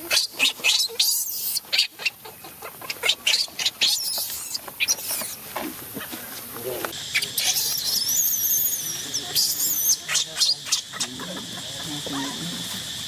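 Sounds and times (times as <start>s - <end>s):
baby monkey screaming: 0.0s - 5.4s, 7.0s - 12.5s.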